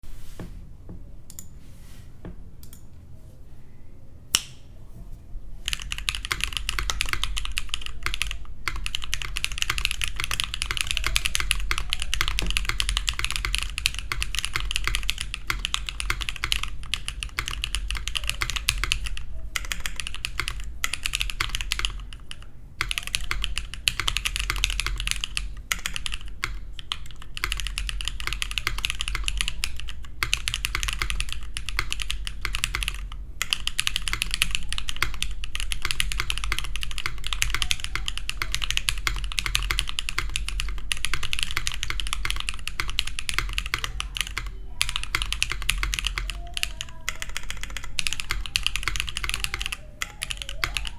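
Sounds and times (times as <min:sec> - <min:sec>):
typing on mechanical keyboard: 0:05.6 - 0:50.9.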